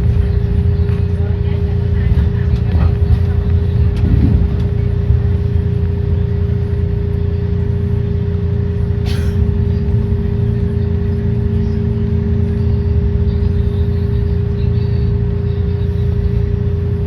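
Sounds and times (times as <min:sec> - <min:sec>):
trolley car rumbling: 0:00.0 - 0:17.0.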